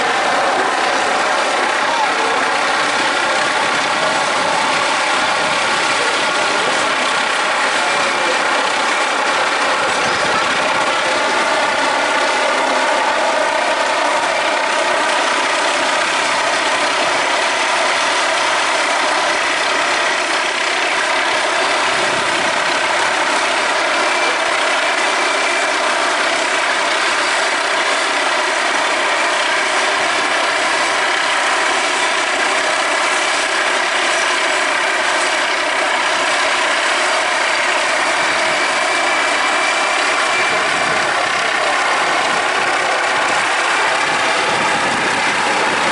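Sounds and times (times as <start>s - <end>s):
helicopter rotor and turbine drone: 0.0s - 45.9s.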